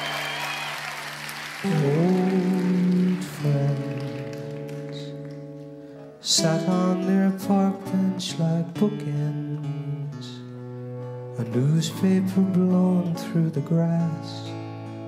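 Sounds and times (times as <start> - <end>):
acoustic guitar chords strummed: 1.6 - 15.0.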